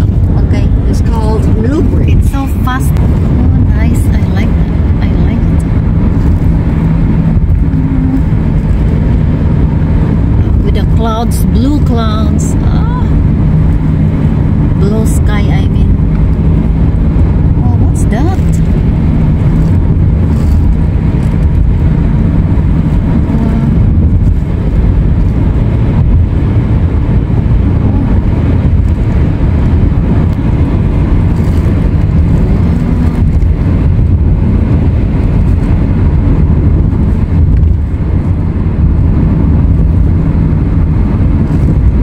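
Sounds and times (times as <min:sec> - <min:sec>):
car interior road rumble: 0:00.0 - 0:42.0.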